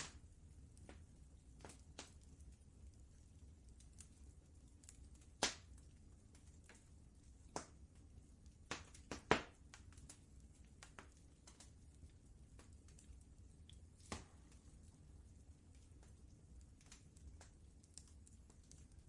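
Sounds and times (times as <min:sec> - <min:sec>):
low steady rumble: 0:00.0 - 0:19.0
wood fire crackling and popping: 0:00.0 - 0:19.0.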